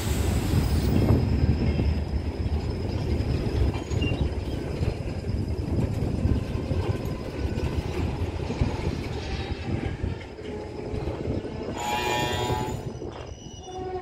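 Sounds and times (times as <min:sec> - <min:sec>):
freight train wagons rumbling: 0:00.0 - 0:14.0
shrill train tone: 0:00.0 - 0:14.0.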